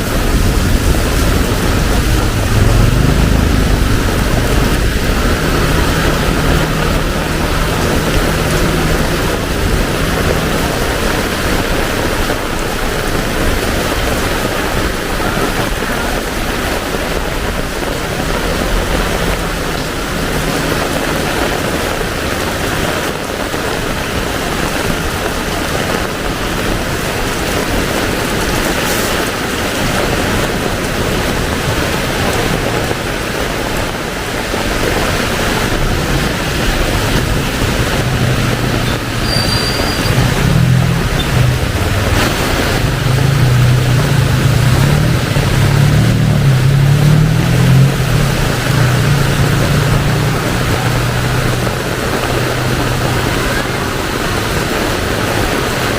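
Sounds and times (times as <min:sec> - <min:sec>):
heavy rain pouring: 0:00.0 - 0:55.9
vehicle engine hum: 0:00.0 - 0:55.9.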